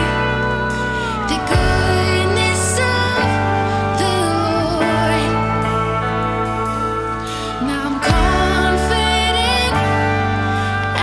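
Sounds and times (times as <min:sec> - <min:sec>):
person singing: 0:00.0 - 0:11.0
worship band chords: 0:00.0 - 0:11.0.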